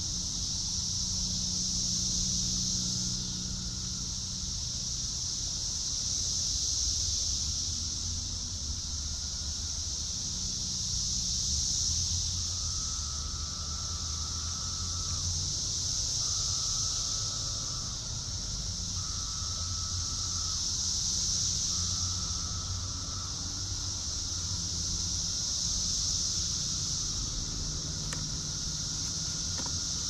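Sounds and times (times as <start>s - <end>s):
faint low drone: 0.0s - 30.0s
high-pitched insect chorus: 0.0s - 30.0s.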